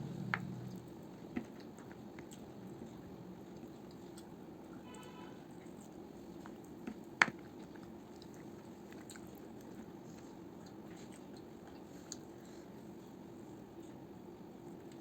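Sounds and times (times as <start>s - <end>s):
person chewing food: 0.1s - 4.7s, 5.4s - 14.0s.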